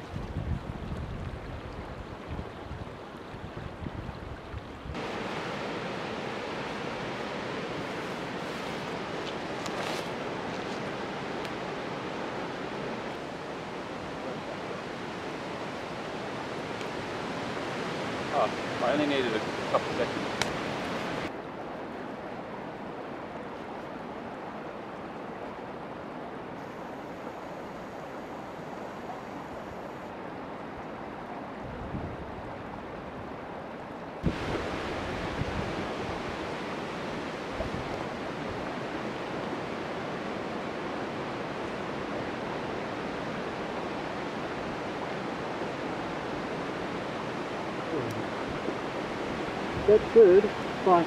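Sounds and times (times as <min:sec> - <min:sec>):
creek water rushing: 0:00.0 - 0:51.0.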